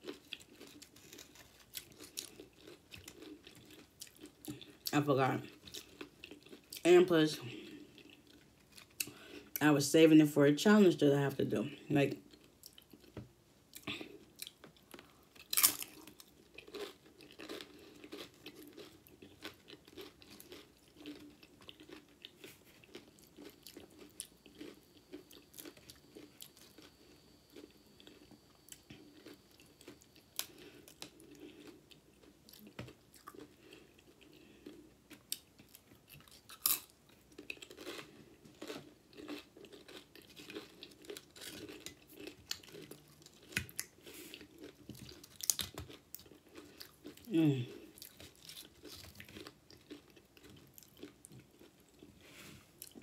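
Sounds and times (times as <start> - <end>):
chewing crunchy chips: 0.0 - 9.6, 11.7 - 53.0.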